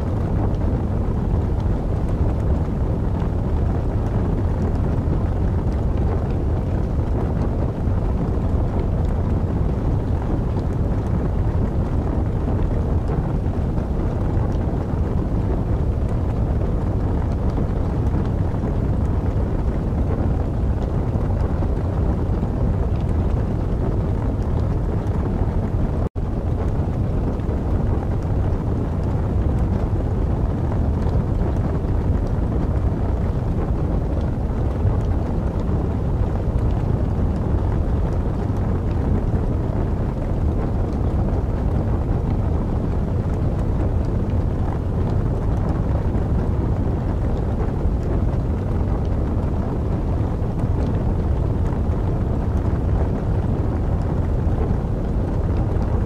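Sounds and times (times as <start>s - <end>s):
faint fire crackles: 0.0s - 56.0s
wood fire rushing: 0.1s - 56.0s.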